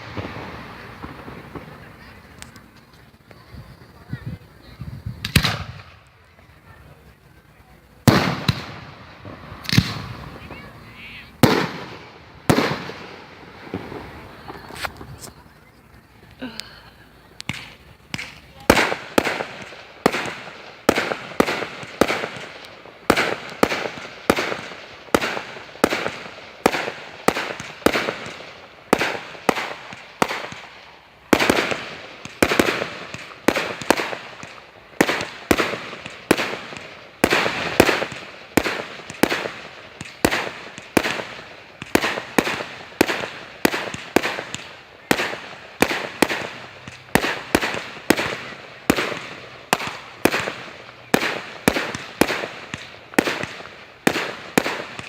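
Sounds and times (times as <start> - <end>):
fireworks banging: 0.0 - 55.0
fireworks crackling: 0.0 - 55.0.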